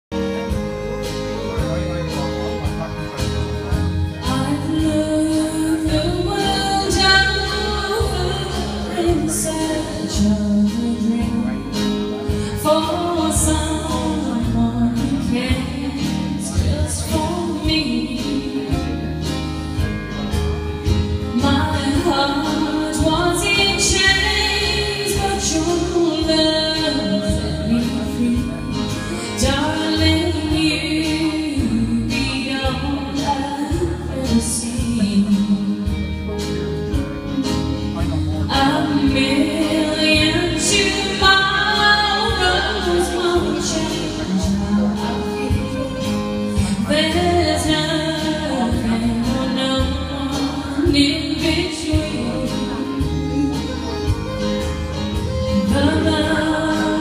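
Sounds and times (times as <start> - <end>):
instrumental backing music: 0.1 - 57.0
woman singing into a microphone: 3.8 - 20.1, 21.1 - 57.0.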